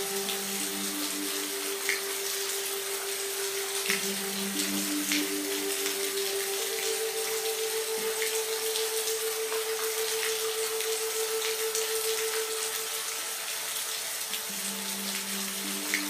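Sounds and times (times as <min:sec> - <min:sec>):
background music note: 0:00.0 - 0:16.0
steady rain: 0:00.0 - 0:16.0.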